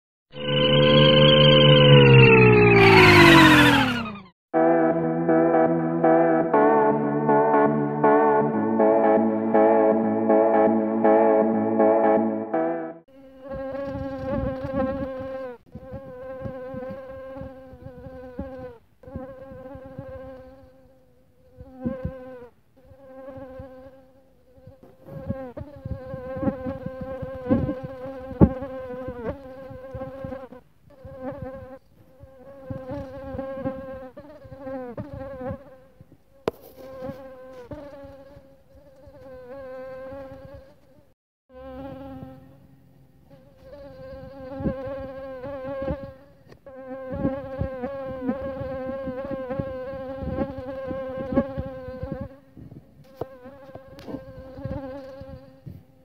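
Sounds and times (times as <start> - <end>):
mosquito whine: 0.3 - 52.4, 53.1 - 55.8.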